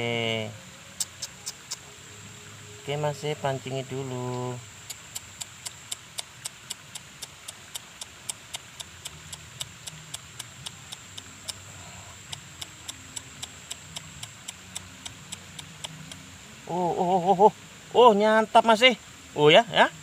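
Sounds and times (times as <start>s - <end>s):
insect buzzing and ticking: 0.0s - 20.0s.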